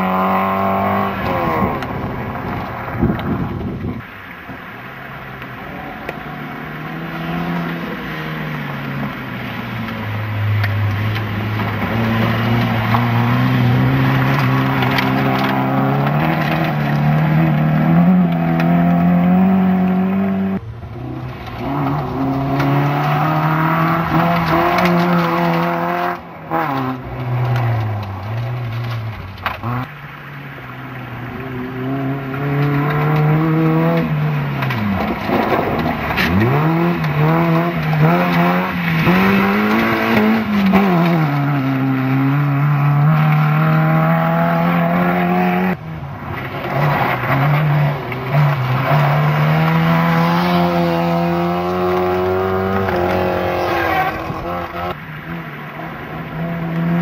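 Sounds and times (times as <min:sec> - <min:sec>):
rally car engines revving hard: 0:00.0 - 0:04.1, 0:05.4 - 0:29.9, 0:30.8 - 0:57.0.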